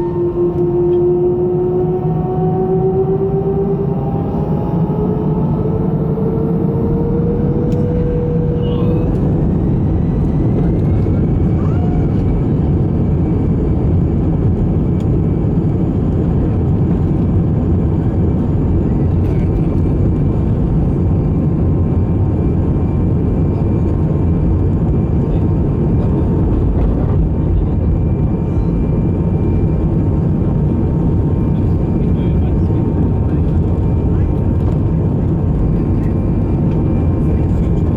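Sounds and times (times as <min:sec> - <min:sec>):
airliner cabin rumble: 0:00.0 - 0:37.9.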